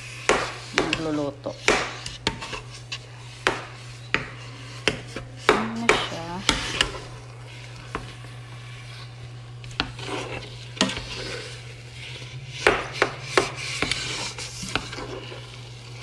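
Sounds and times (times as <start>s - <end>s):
steady low hum: 0.0s - 16.0s
utensil stirring thick pudding in pot: 0.0s - 16.0s.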